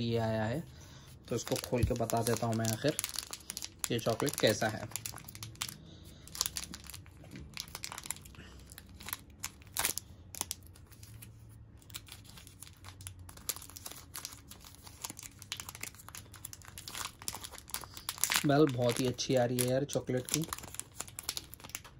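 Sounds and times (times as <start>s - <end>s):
foil wrapper crinkling and tearing: 1.2s - 21.9s.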